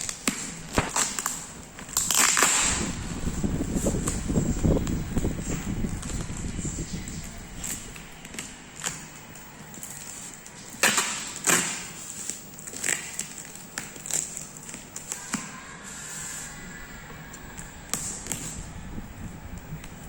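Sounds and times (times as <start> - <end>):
packaging rustles: 0.0 - 20.0.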